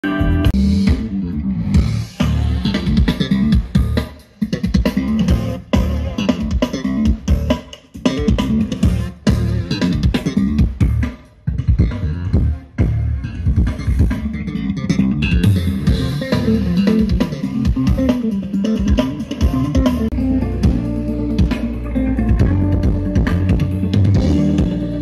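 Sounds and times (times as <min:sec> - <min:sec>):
loud rock music with drums: 0:00.1 - 0:25.0.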